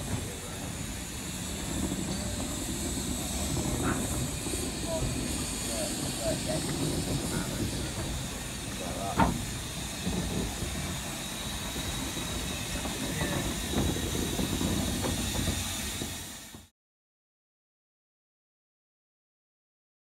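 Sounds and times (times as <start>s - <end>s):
steam hissing: 0.0s - 16.7s.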